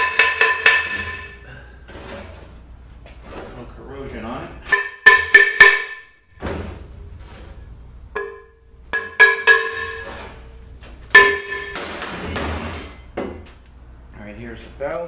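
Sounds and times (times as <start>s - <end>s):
metal scraping: 0.0s - 13.1s.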